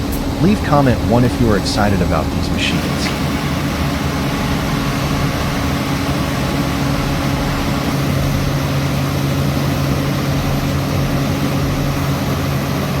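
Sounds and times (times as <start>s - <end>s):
heavy vehicle engines rumbling: 0.0s - 13.0s.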